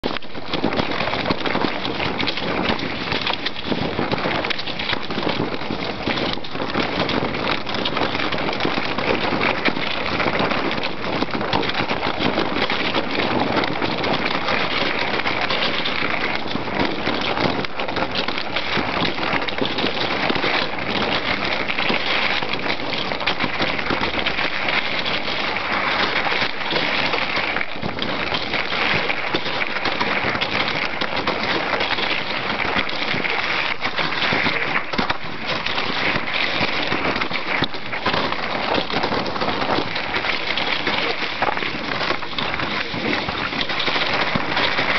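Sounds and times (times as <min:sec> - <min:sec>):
sled runners scraping on snow: 0:00.0 - 0:44.9.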